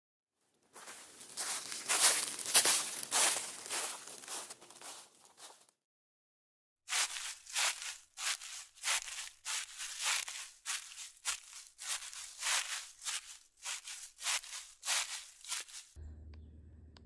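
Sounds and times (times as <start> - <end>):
footsteps crunching dry leaves: 0.7 - 5.7, 6.9 - 16.0
footsteps swishing through grass: 0.8 - 5.6, 6.9 - 16.0.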